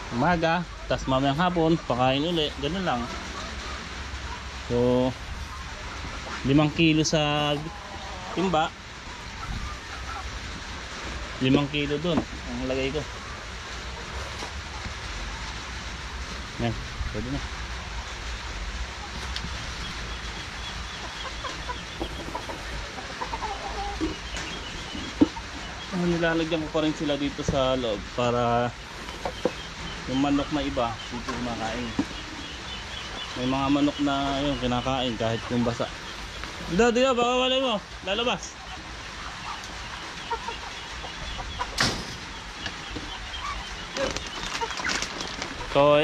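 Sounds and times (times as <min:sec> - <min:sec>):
chickens clucking: 0:00.0 - 0:46.0
steady background hiss: 0:00.0 - 0:46.0.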